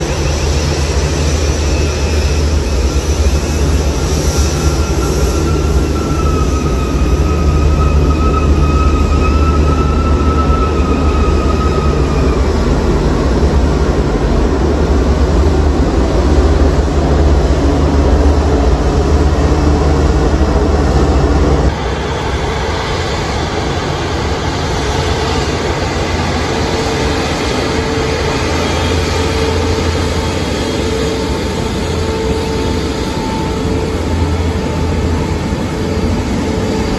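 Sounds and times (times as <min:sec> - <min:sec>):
jet engine whine: 0:00.0 - 0:36.9
jet engines rumbling: 0:00.0 - 0:36.9.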